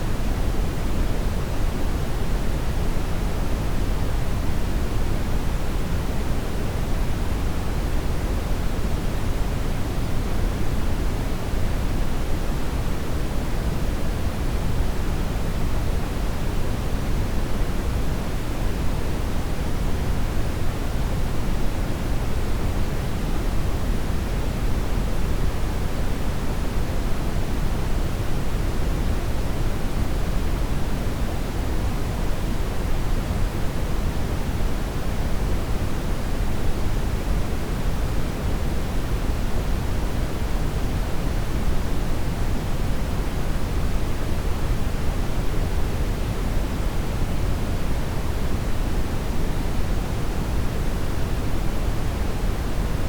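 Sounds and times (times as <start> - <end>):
brown noise hiss: 0.0 - 53.0.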